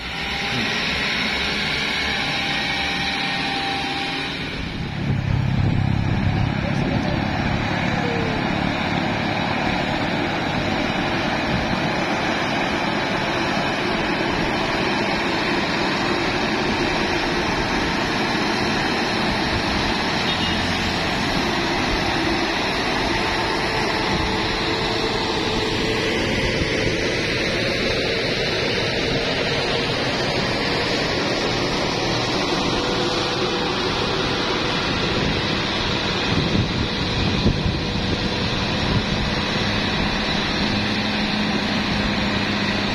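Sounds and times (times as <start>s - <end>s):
diesel truck engine passing: 0.0s - 42.9s.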